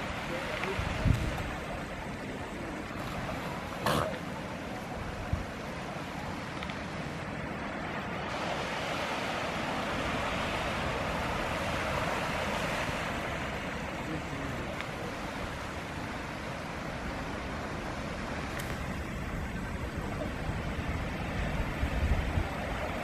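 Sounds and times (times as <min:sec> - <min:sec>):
surf on a beach: 0:00.0 - 0:23.0
wind: 0:00.0 - 0:23.0.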